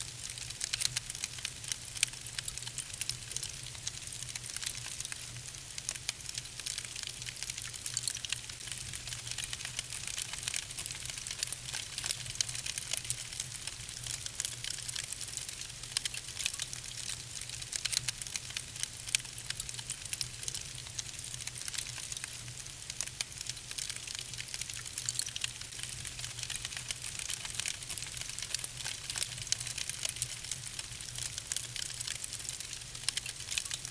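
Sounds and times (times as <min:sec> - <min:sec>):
log fire crackling: 0:00.1 - 0:33.9.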